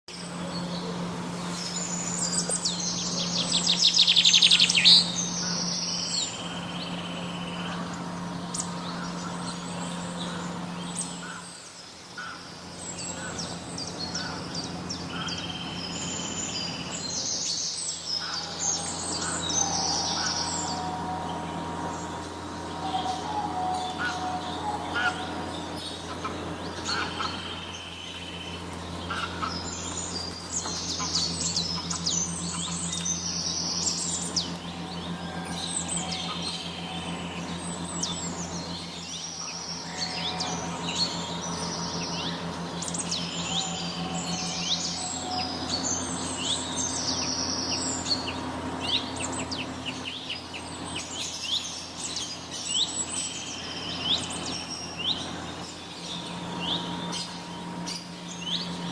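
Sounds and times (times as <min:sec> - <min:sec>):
small birds chirping and trilling: 0:00.0 - 0:58.9
steady low hum: 0:00.0 - 0:58.9.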